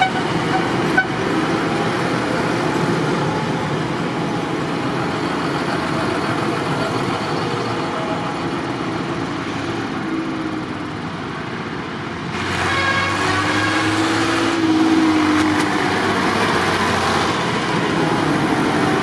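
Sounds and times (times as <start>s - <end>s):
tractor engines running: 0.0s - 19.0s.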